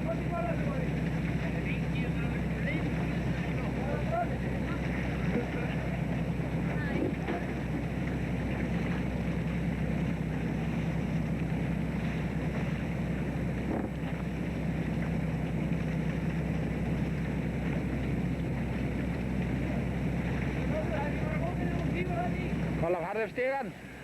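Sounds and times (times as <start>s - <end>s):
boat engine drone: 0.0s - 24.0s
sea noise: 0.0s - 24.0s
wind: 0.0s - 24.0s.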